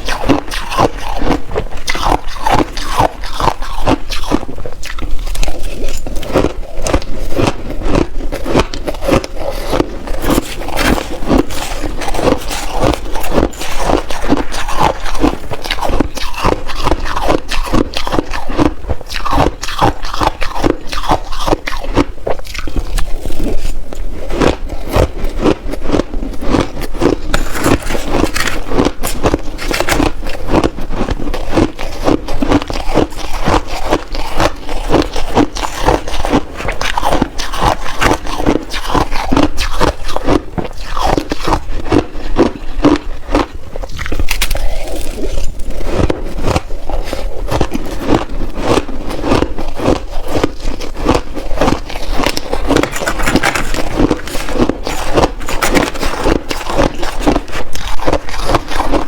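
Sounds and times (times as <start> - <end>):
ice being crunched and chewed: 0.0 - 59.0.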